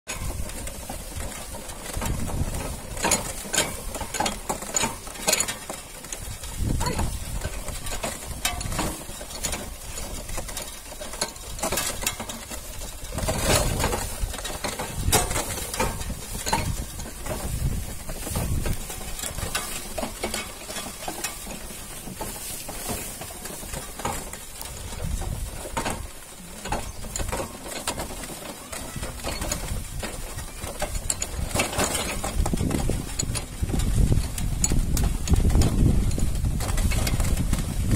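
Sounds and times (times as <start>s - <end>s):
wooden cart wheels rattling: 0.0s - 37.9s.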